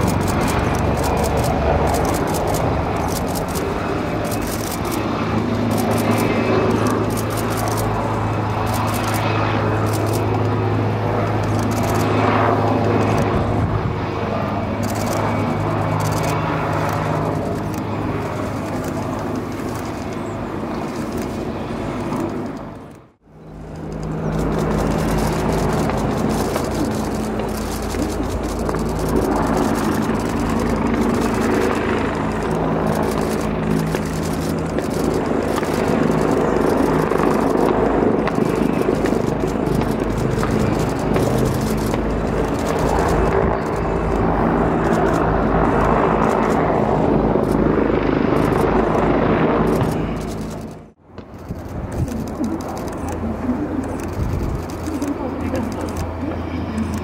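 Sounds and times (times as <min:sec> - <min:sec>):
helicopter rotor and engines droning: 0:00.0 - 0:57.0.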